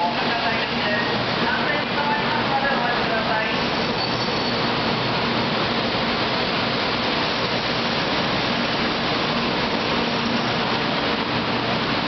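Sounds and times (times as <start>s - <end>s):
train pulling in: 0.0s - 12.0s.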